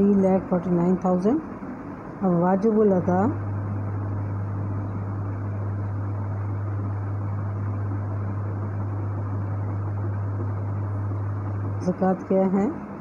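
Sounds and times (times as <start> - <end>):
low-pitched hum: 0.0 - 13.0.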